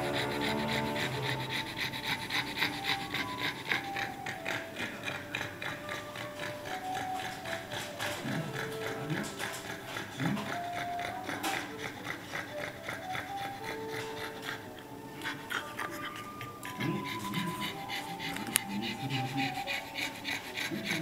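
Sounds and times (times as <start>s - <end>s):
dog panting and snorting: 0.0s - 21.0s
quiet background music: 0.0s - 21.0s.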